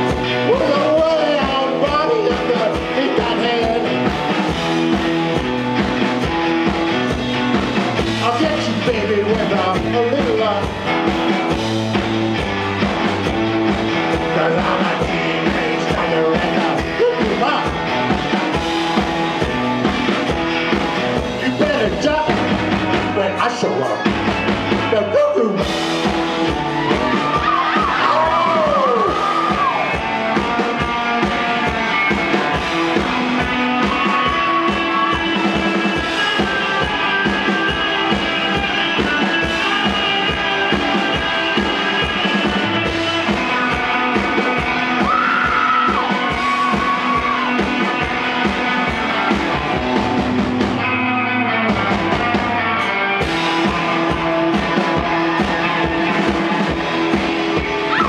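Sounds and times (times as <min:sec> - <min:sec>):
drum kit beat: 0:00.0 - 0:58.0
electric guitar: 0:00.0 - 0:58.0
live rock band playing: 0:00.0 - 0:58.0.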